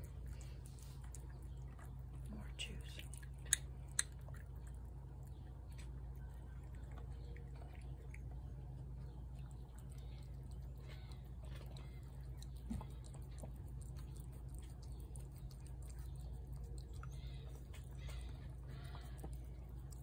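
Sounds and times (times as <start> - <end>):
cat chewing and licking: 0.0 - 20.0
steady low hum: 0.0 - 20.0.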